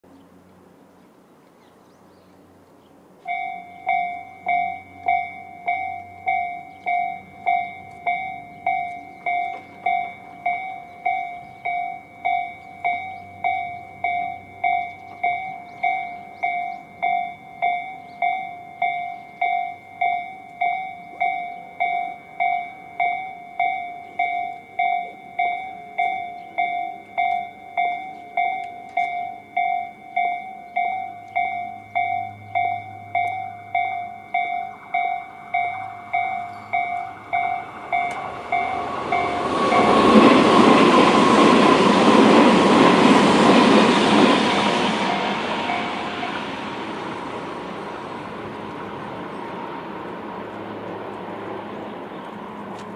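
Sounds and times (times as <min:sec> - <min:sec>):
train passing: 0:00.1 - 0:52.9
level crossing alarm ringing: 0:03.3 - 0:46.9.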